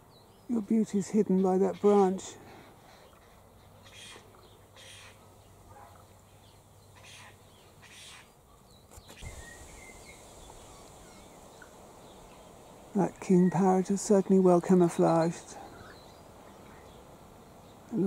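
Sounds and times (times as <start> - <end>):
distant birds calling: 0.0 - 18.0.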